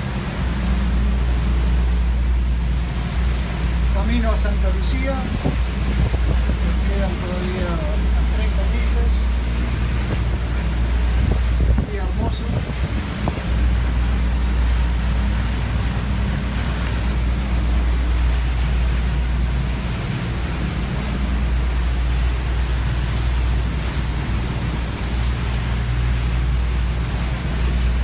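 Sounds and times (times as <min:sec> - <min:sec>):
boat engines droning: 0:00.0 - 0:28.0
wind and water rushing: 0:00.0 - 0:28.0.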